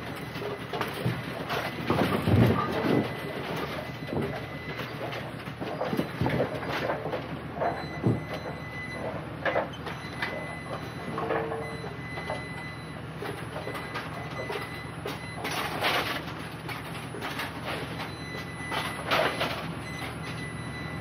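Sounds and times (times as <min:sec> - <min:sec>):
knocks and clatters of goods: 0:00.0 - 0:21.0.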